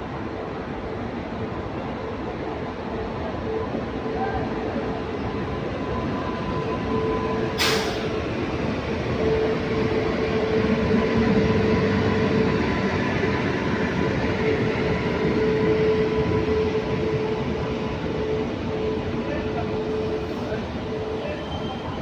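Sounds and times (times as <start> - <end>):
train rumbling on rails: 0.0 - 22.0
locomotive high hum: 0.1 - 22.0.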